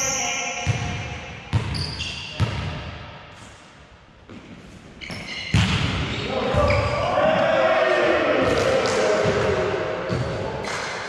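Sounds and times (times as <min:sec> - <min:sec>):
volleyball thuds in a hall: 0:00.5 - 0:11.0.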